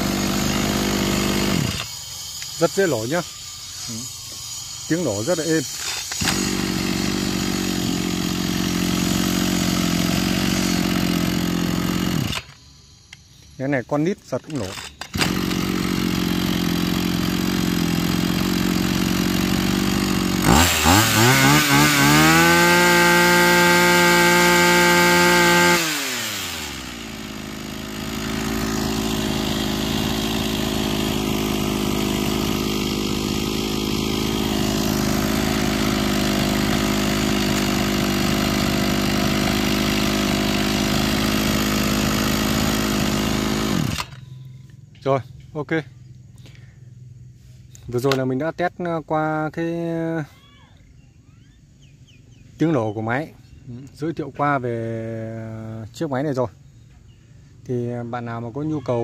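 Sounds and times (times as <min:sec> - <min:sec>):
brush cutter engine revving: 0:00.0 - 0:46.7, 0:47.6 - 0:50.2, 0:52.5 - 0:56.0.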